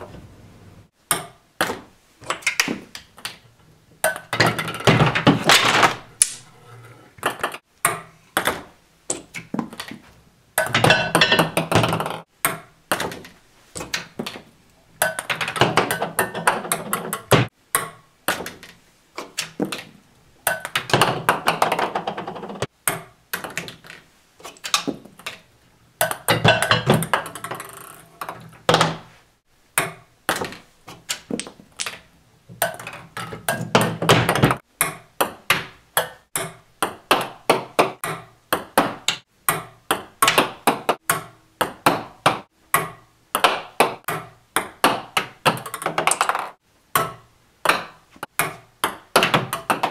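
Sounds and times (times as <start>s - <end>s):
ping-pong balls bouncing on wood: 1.1s - 3.4s, 4.0s - 6.4s, 7.2s - 24.0s, 24.6s - 49.9s.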